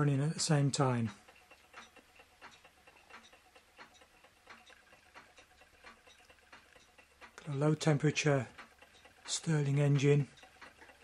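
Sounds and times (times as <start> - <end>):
faint regular engine ticking: 0.0 - 11.0.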